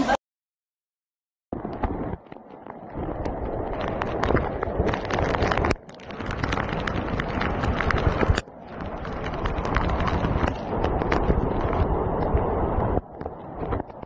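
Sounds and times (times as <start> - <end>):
floodwater rushing: 1.6 - 14.0
sharp crackles: 1.6 - 14.0.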